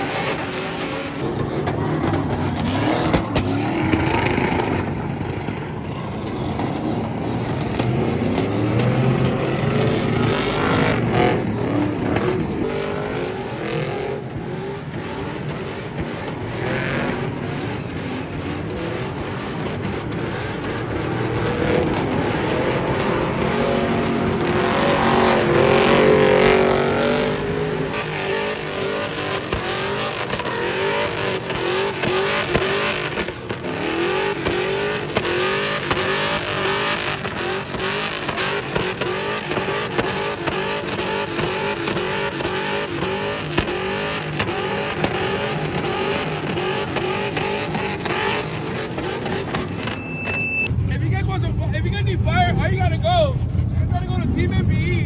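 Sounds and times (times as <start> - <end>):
car engine revving hard: 0.0 - 50.0.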